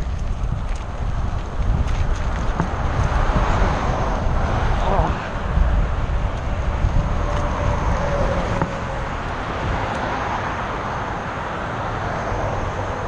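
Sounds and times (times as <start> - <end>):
car road noise: 0.0 - 13.0.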